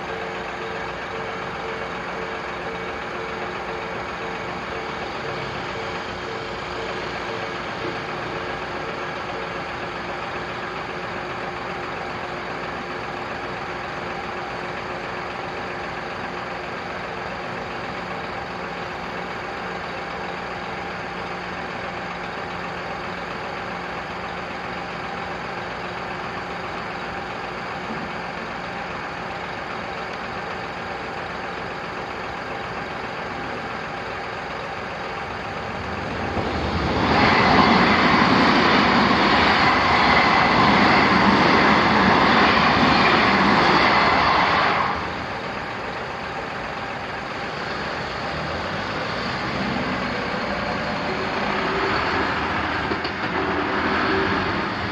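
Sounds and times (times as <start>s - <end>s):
oncoming train: 0.0s - 54.9s
vehicle engines idling: 0.0s - 54.9s.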